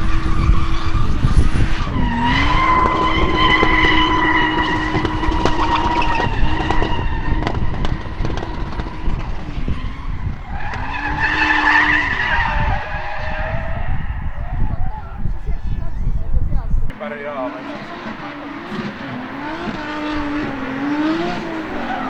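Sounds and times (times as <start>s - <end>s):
tyres screeching: 0.0s - 15.3s, 16.9s - 22.0s
drift car engine revving high: 0.0s - 15.6s, 16.9s - 22.0s.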